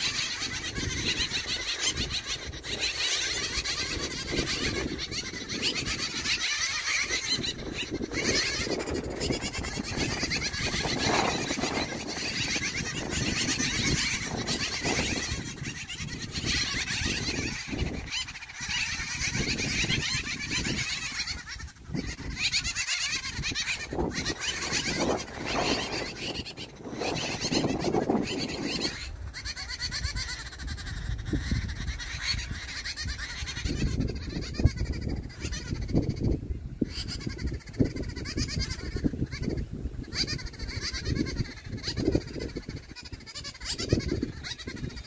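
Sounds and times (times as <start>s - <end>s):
animal calls: 0.0s - 45.0s.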